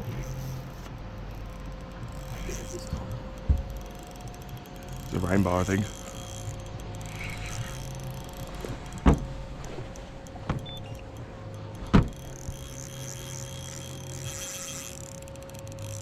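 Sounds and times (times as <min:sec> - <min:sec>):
fishing reel buzzing: 0:00.0 - 0:16.0.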